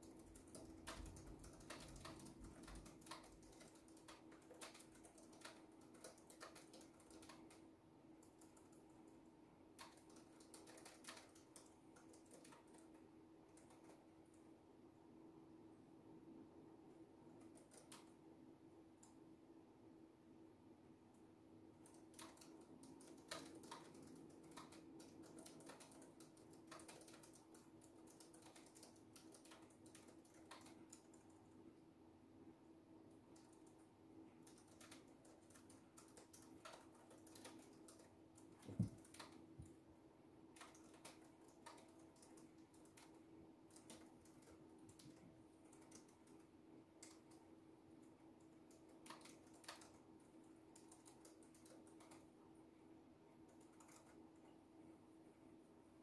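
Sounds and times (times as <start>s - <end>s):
laptop keyboard typing: 0.0s - 14.5s, 17.3s - 18.2s, 21.6s - 31.8s, 33.0s - 39.8s, 40.4s - 52.5s, 53.4s - 54.6s
faint steady hum: 0.0s - 56.0s.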